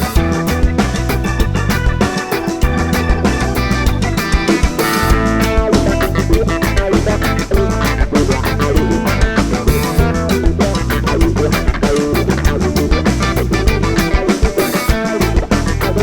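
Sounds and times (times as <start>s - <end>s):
bass guitar: 0.0s - 16.0s
drum kit steady beat: 0.0s - 16.0s
electric guitars: 0.0s - 16.0s.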